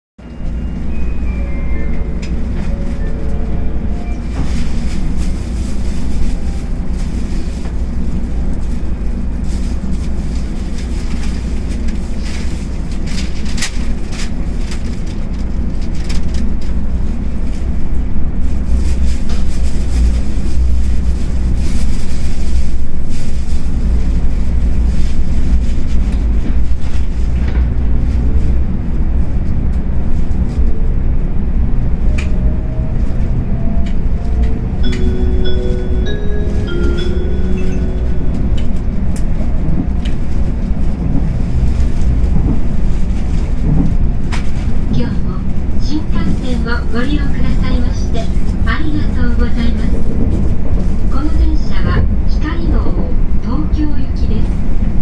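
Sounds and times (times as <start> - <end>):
train running rumble: 0.2 - 55.0.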